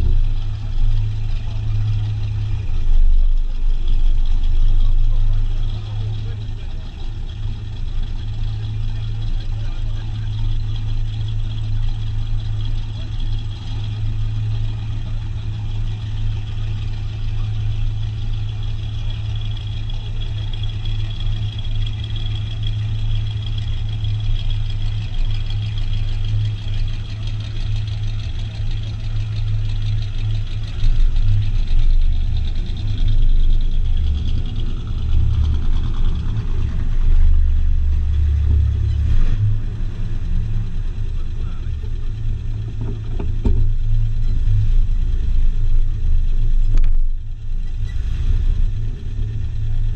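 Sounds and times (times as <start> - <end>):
car engine droning: 0.0 - 49.9.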